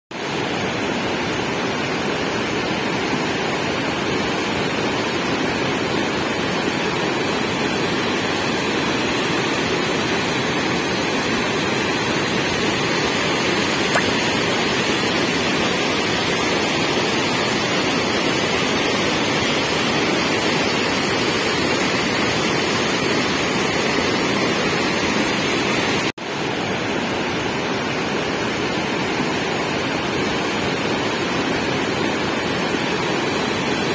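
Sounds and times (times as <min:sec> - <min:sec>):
water rushing through spillway: 0:00.2 - 0:33.9.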